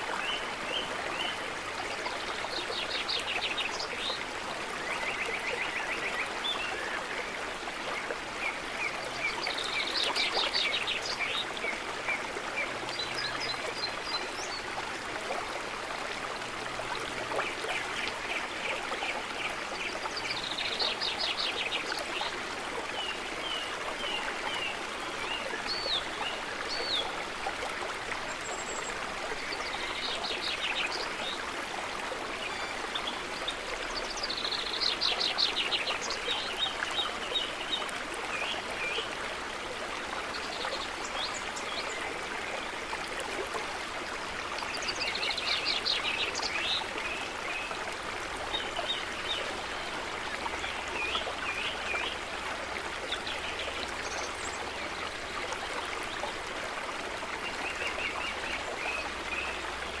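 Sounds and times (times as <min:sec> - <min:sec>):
stream running: 0:00.0 - 1:00.0.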